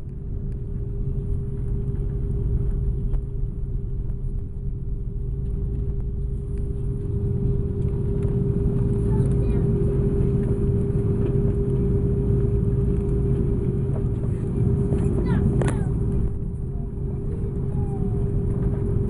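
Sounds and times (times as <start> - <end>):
airliner low rumble: 0.0 - 19.0
mid-pitched hum: 0.0 - 19.0.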